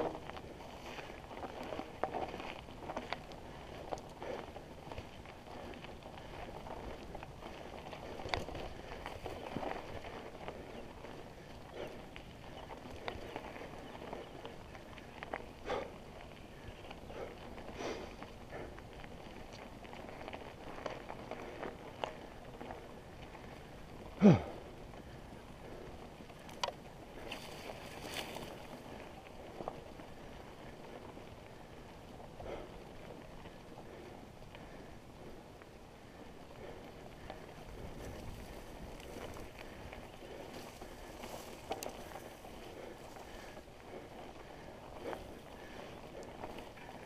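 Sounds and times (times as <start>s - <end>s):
bike clicks and rattles: 0.0s - 47.0s
bike tyres on dirt trail: 0.0s - 47.0s
wind rumbling on microphone: 0.0s - 47.0s.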